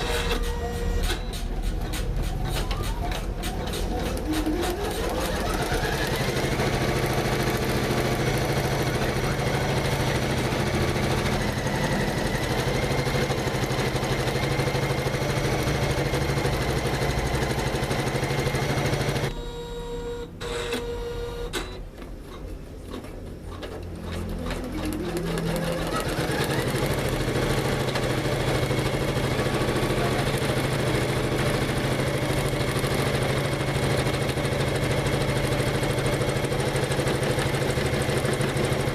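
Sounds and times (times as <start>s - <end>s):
embroidery machine stitching: 0.0s - 19.4s, 22.4s - 38.9s.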